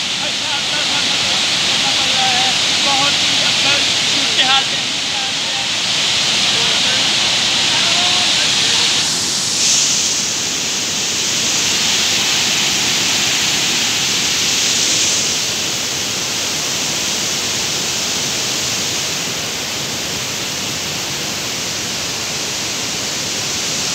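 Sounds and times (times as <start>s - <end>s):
floodwater rushing and churning: 0.0s - 23.9s.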